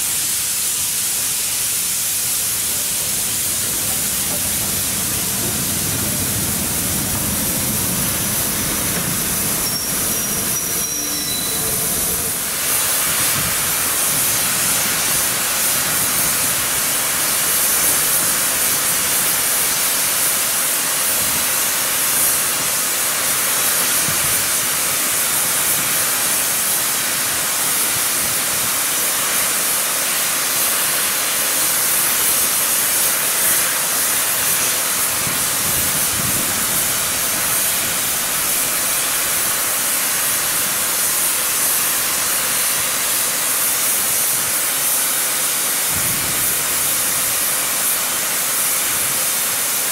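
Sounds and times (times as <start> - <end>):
low rumble of moving locomotive: 0.0 - 49.9
steam hissing: 0.0 - 49.9.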